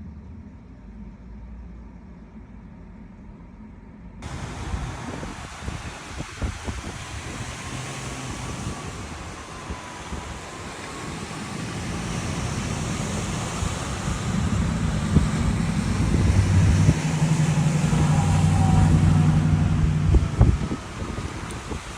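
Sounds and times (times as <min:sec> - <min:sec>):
wind rumbling on microphone: 0:04.2 - 0:21.9.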